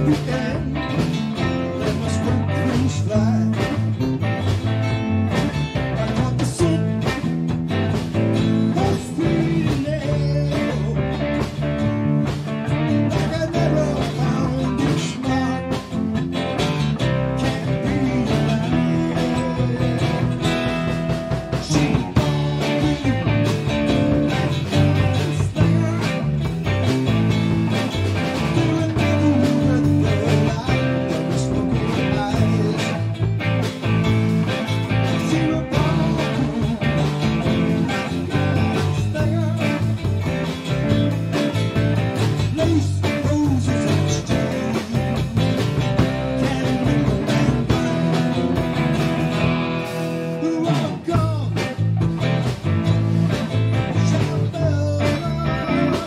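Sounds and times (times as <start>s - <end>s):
live band playing: 0.0s - 56.0s
steady drum beat: 0.0s - 56.0s.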